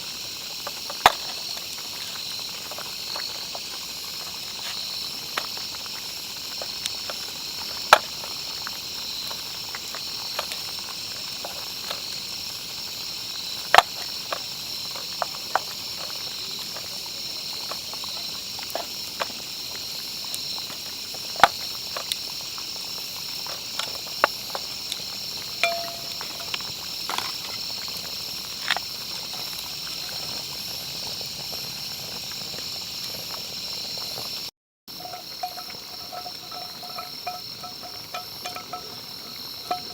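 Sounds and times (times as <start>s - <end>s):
campfire popping and crackling: 0.0s - 39.9s
insects chirring: 0.0s - 39.9s.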